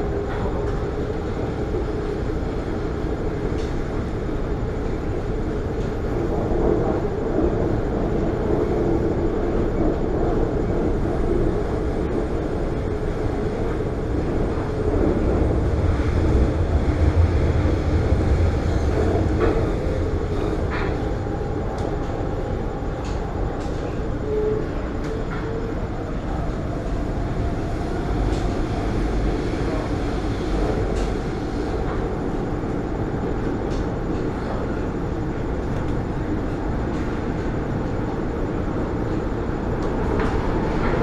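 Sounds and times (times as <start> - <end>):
train rumble and hum: 0.0 - 41.0.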